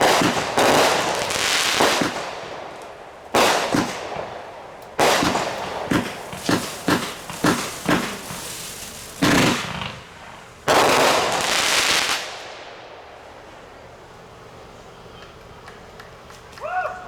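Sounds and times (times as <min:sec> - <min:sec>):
fireworks bangs and booms: 0:00.0 - 0:14.0.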